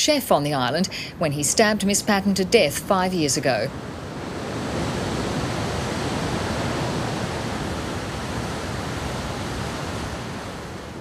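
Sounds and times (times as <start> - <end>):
waves breaking: 0.5 - 11.0.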